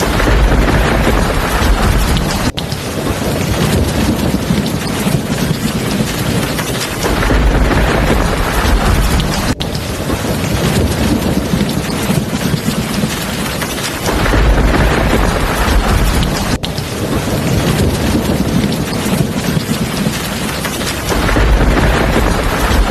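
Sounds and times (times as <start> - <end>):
heavy rain pouring: 0.0 - 22.9
thunder rumbling: 0.0 - 22.9.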